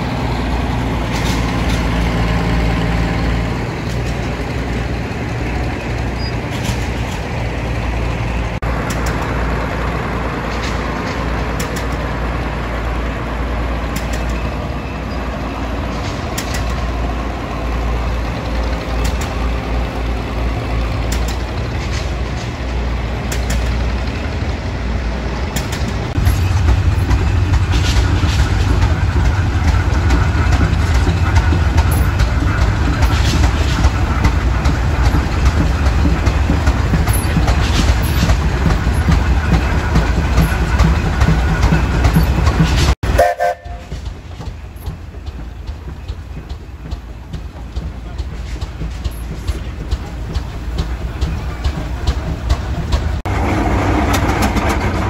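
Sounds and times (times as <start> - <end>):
heavy machinery low rumble: 0.0 - 55.0.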